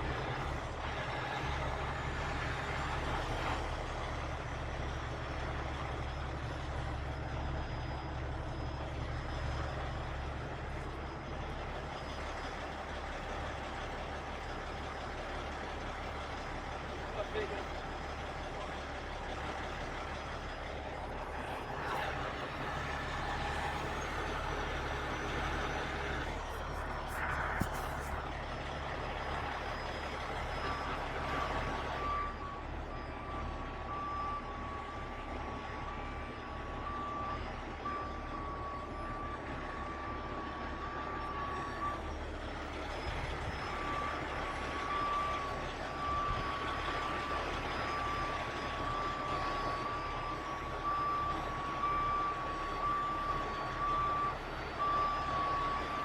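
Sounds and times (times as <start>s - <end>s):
diesel truck engine running: 0.0s - 56.0s
reversing alarm beeping: 1.4s - 56.0s.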